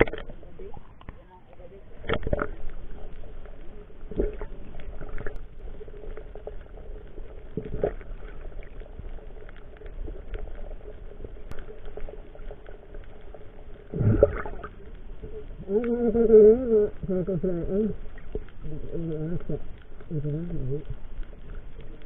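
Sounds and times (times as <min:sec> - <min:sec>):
muffled underwater bubbling: 0:00.0 - 0:22.0.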